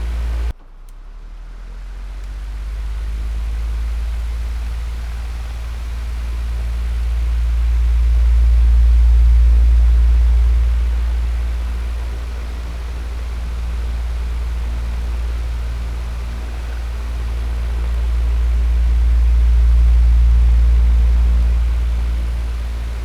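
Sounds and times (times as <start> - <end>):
electric fan running: 0.0 - 0.5, 1.9 - 23.0.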